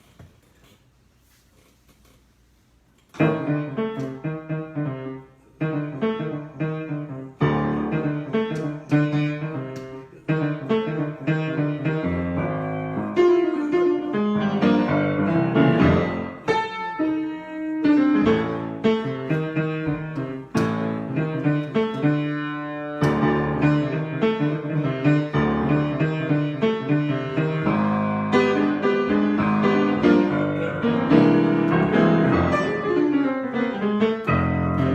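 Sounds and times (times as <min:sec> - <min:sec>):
solo piano improvisation: 0:03.1 - 0:34.9.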